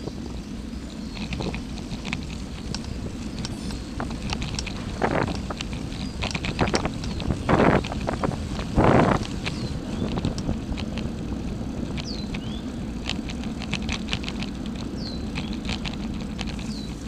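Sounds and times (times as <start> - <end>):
low rumble: 0.0 - 17.0
wind on microphone: 0.0 - 17.0
light clicks: 1.1 - 17.0.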